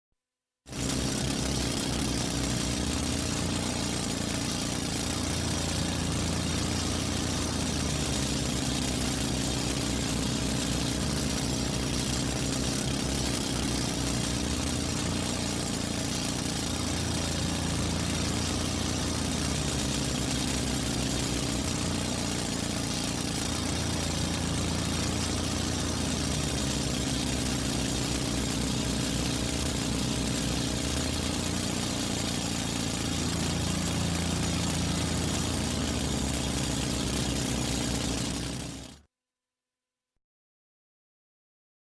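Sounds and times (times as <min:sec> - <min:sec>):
drill running: 0:00.7 - 0:39.0.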